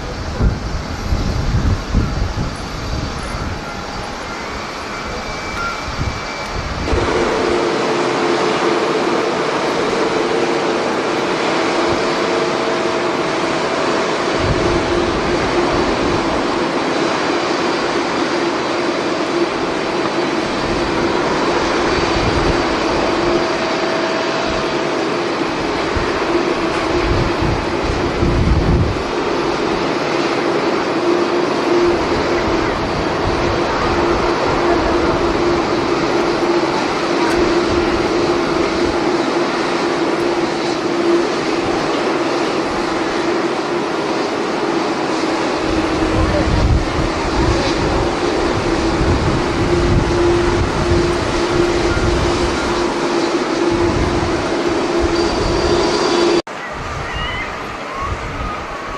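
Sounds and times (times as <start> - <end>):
jet engine whining tones: 0.0 - 58.9
jet engines roaring: 0.0 - 58.9
wind buffeting microphone: 0.0 - 58.9.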